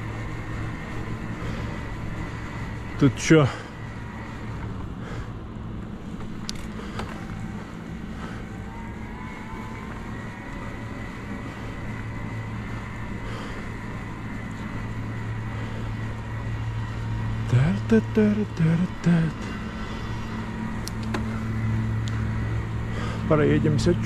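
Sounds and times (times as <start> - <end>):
faint rising whine: 0.0 - 24.0
thin electric motor whine: 0.0 - 24.0.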